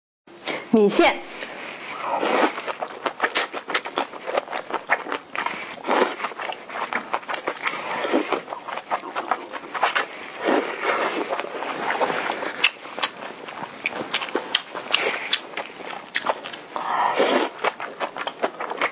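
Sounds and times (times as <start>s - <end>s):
wet noodle slurps: 1.4s - 18.9s.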